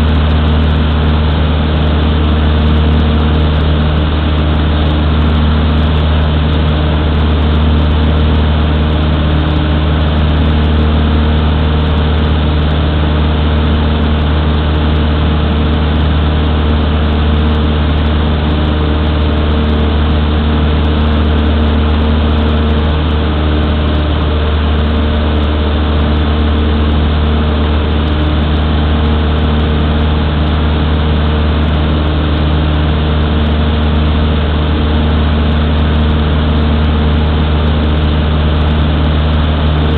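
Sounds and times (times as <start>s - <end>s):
small plane engine droning in cabin: 0.0s - 39.9s.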